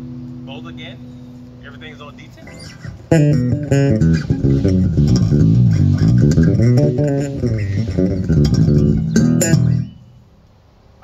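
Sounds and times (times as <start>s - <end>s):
electric bass plucked notes: 0.0s - 10.2s.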